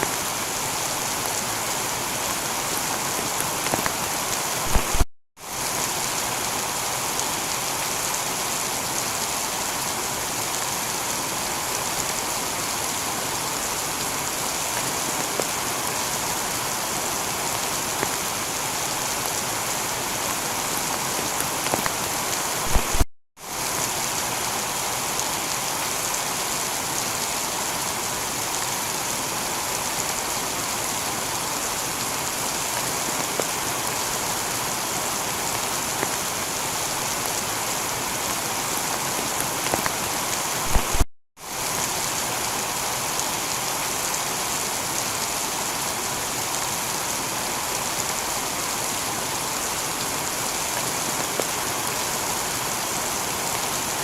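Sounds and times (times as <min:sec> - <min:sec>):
heavy rain on a tiled roof: 0:00.0 - 0:54.0.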